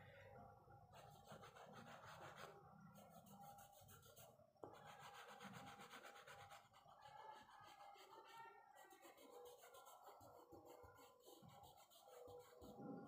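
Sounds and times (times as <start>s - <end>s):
pastel stick rubbing on paper: 1.0s - 12.8s.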